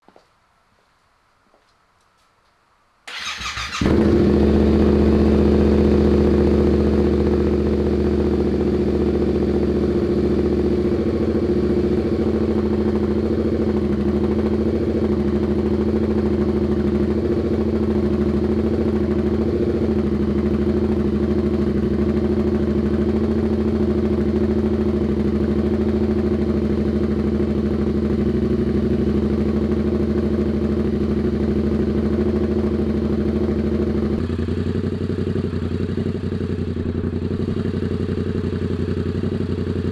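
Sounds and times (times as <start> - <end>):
engine idling: 3.1 - 39.9.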